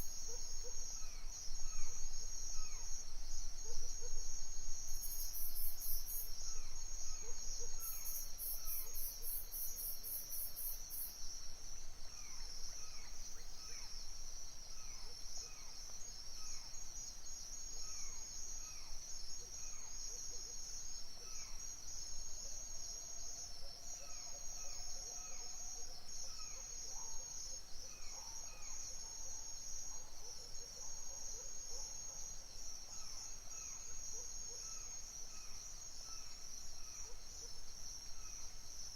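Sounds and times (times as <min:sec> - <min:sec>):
crickets chirping: 0:00.0 - 0:38.9
rapidly pulsing insect trill: 0:00.0 - 0:38.9.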